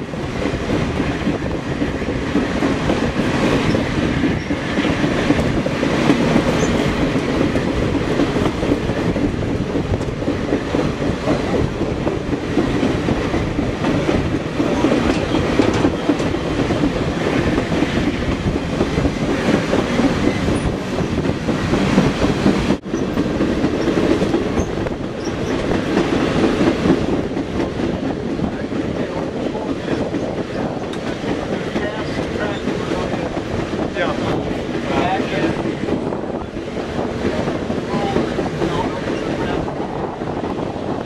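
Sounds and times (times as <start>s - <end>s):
train rumbling along rails: 0.0s - 41.0s
clicking over rail joints: 0.4s - 41.0s.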